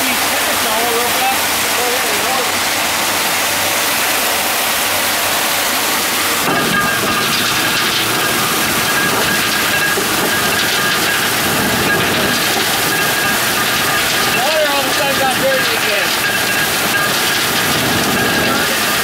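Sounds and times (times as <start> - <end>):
faint high machinery whine: 0.0 - 19.0
water and gravel splashing: 0.0 - 19.0.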